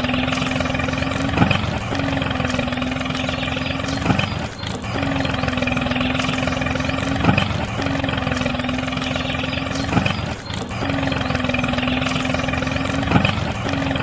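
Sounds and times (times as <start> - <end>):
small motor humming: 0.0 - 14.0.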